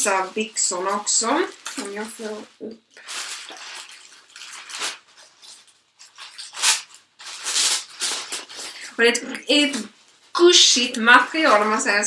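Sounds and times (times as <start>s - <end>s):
clothing and packaging rustling: 0.0s - 12.0s.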